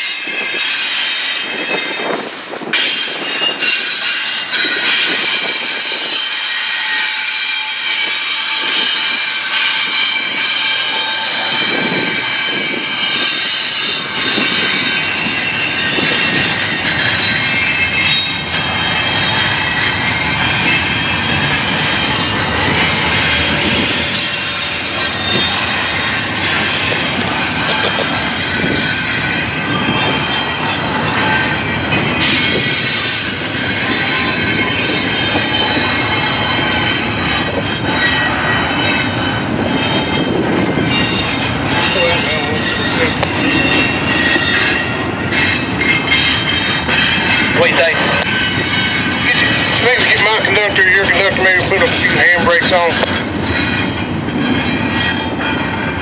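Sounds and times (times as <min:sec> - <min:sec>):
train wheels rumbling on rails: 0:00.0 - 0:56.0
high-pitched wheel squeal: 0:04.8 - 0:50.3.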